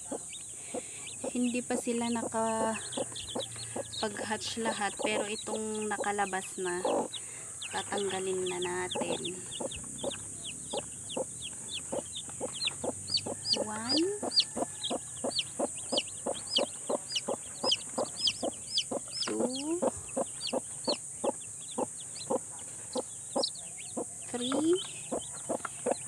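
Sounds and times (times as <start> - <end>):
chicks peeping: 0.0 - 26.0
hen clucking: 0.0 - 26.0.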